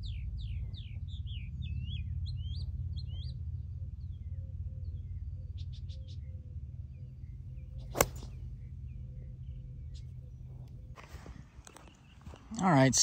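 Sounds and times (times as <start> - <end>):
songbird whistling song: 0.0 - 12.5
steady low rumble: 0.0 - 13.0.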